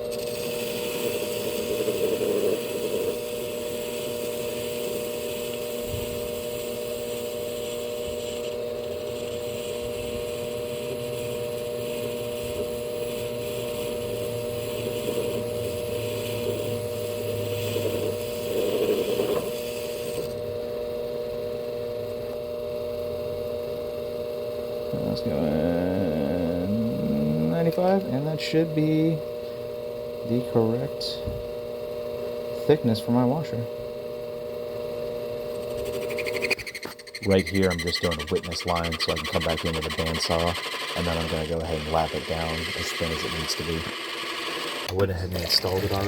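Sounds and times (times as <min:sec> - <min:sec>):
lathe motor whine: 0:00.0 - 0:46.0.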